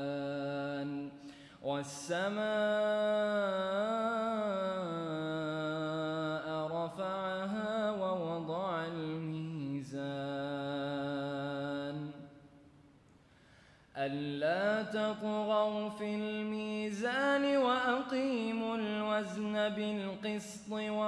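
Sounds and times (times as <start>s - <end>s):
man reciting melodically: 0.0s - 12.4s, 13.9s - 21.0s.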